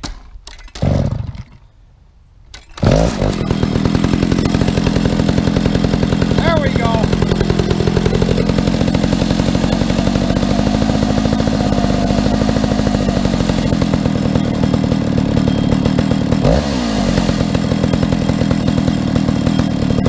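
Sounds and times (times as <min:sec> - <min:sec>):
chainsaw cutting log: 0:00.7 - 0:01.6, 0:02.6 - 0:20.0.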